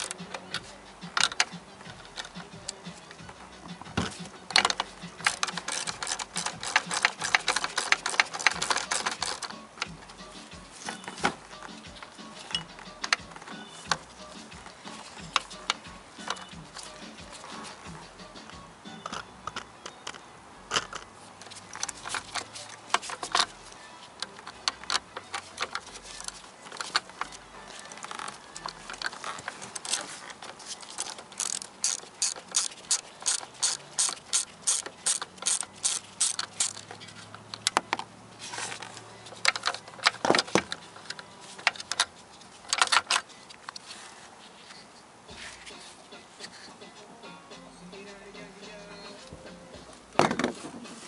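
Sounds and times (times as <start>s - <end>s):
ratchet wrench clicking: 0.0s - 3.2s, 4.1s - 38.0s, 38.7s - 43.8s.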